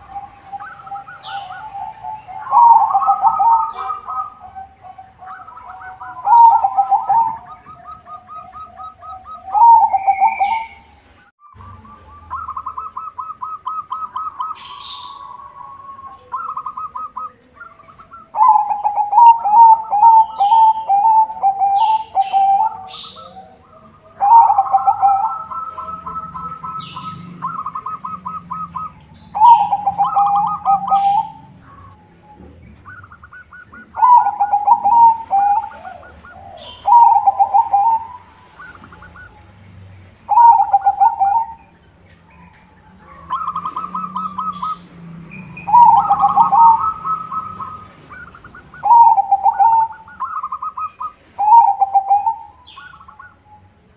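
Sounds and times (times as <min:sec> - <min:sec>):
dove cooing in trilled phrases: 0:00.0 - 0:39.5, 0:40.2 - 0:53.6.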